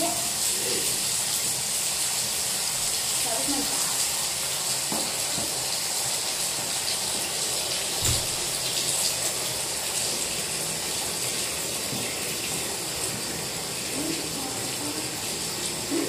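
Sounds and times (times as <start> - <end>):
tap water filling bathtub: 0.0 - 16.0.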